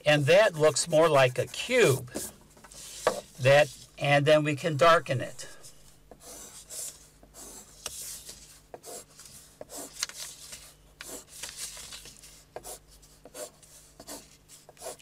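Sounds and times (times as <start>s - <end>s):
pencil scratching on paper: 0.0s - 3.9s, 5.5s - 11.4s, 12.3s - 15.0s.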